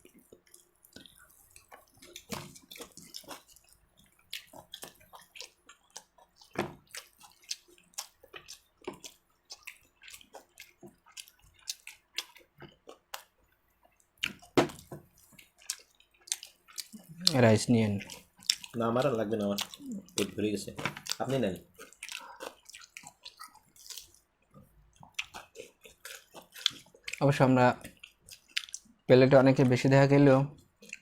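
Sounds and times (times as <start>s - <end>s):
wet chewing: 0.0s - 29.8s, 30.6s - 31.0s.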